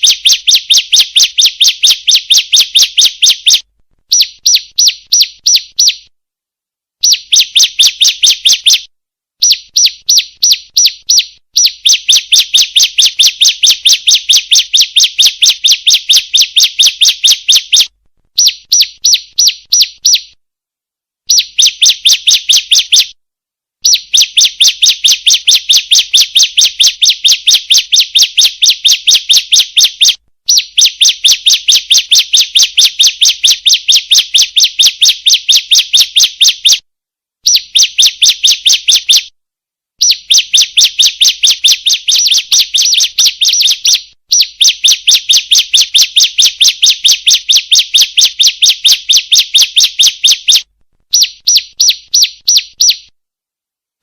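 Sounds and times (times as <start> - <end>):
bird high sharp chirps: 0.0 - 6.1, 7.0 - 20.4, 21.3 - 23.2, 23.8 - 36.8, 37.4 - 39.3, 40.0 - 53.1.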